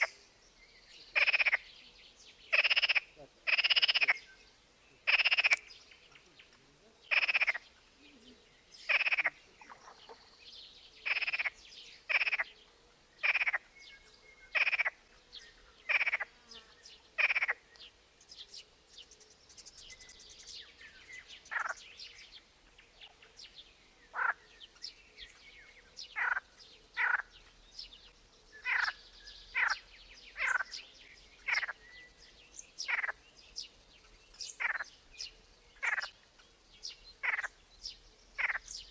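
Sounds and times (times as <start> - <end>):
frogs croaking: 0.0 - 0.2, 1.1 - 1.8, 2.5 - 12.6, 13.2 - 16.4, 17.2 - 17.9, 20.0 - 38.9
faint bird chirps: 0.0 - 38.9.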